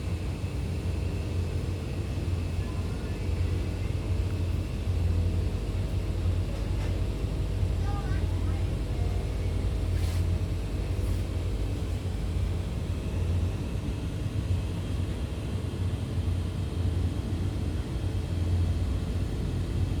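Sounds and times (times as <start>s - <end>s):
train running low rumble: 0.0s - 20.0s.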